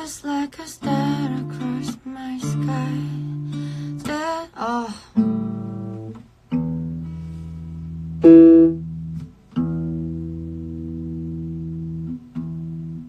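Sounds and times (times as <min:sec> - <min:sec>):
guitar chords ringing: 0:00.8 - 0:04.2, 0:05.2 - 0:13.0.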